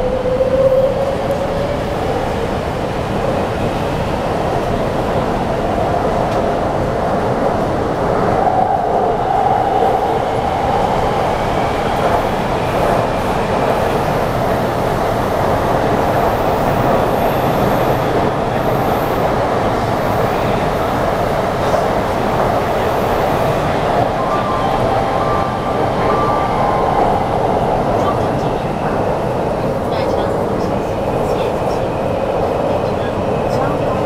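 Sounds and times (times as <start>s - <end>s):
underground train running: 0.0s - 34.0s.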